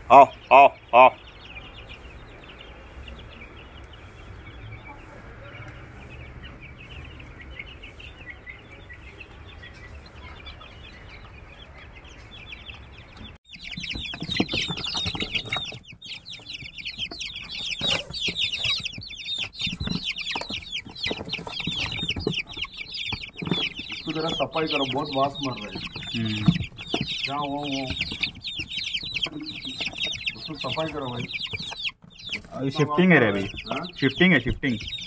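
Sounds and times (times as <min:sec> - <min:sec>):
chicks peeping: 0:00.0 - 0:35.0.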